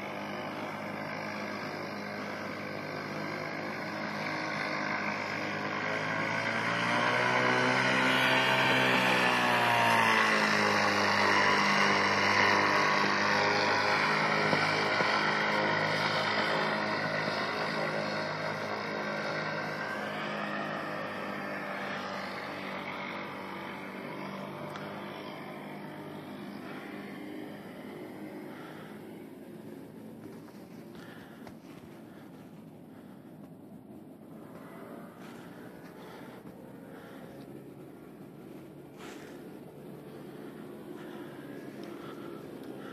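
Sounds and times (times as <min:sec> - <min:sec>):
paraglider engine passing overhead: 0:00.0 - 0:42.9.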